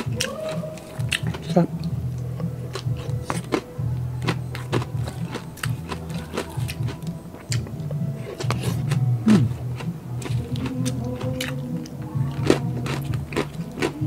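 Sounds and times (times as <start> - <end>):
crunching of fried food chewed: 0.0 - 14.0.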